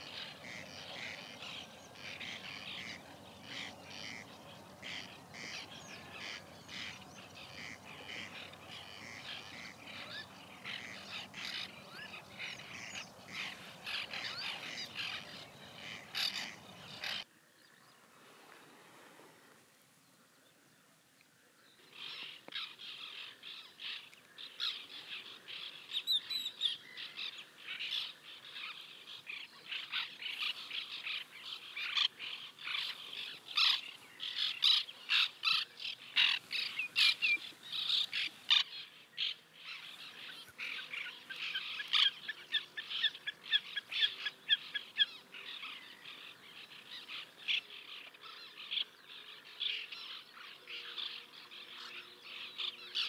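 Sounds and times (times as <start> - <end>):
terns calling: 0.0 - 17.9, 21.9 - 53.0.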